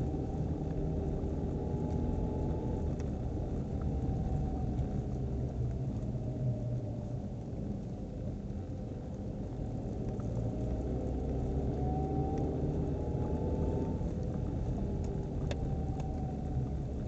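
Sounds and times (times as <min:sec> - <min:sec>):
car road rumble: 0:00.0 - 0:17.0.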